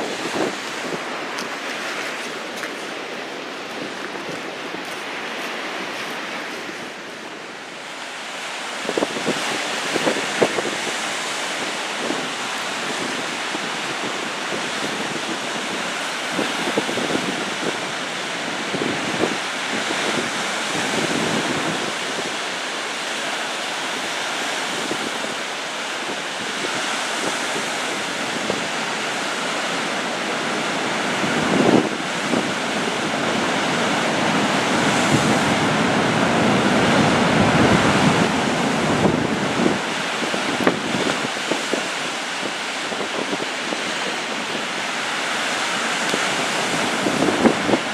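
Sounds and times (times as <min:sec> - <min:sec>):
waves breaking: 0:00.0 - 0:47.9
wind buffeting microphone: 0:00.0 - 0:47.9.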